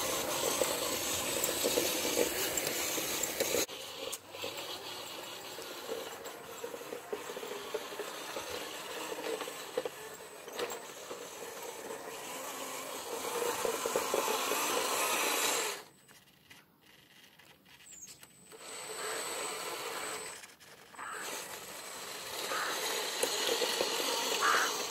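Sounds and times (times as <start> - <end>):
toy truck motor whining: 0.0 - 24.9.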